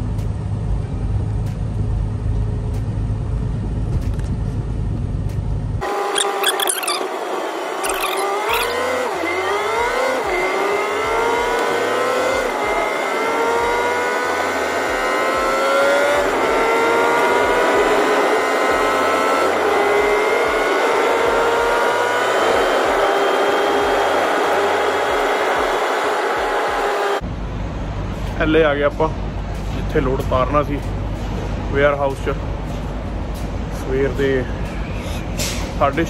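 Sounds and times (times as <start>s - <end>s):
truck engine accelerating: 0.6s - 36.0s.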